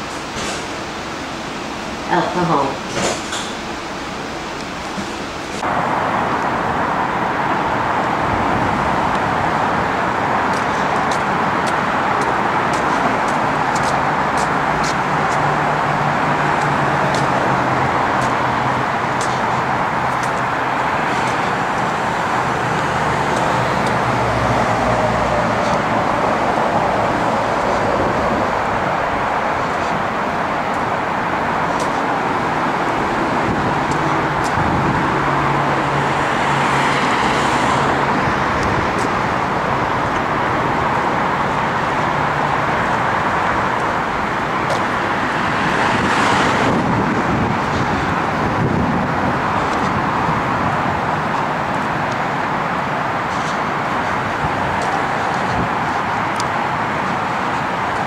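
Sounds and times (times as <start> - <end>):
road traffic hum: 0.0 - 58.0.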